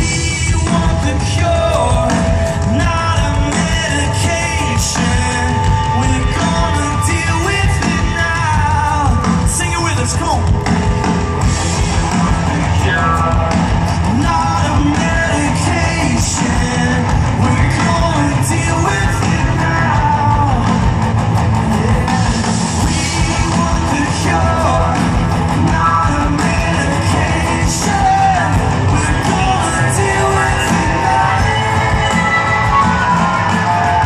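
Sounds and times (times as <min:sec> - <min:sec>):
drums: 0:00.0 - 0:34.0
guitar: 0:00.0 - 0:34.0
live rock band playing: 0:00.0 - 0:34.0
person singing: 0:00.0 - 0:34.0.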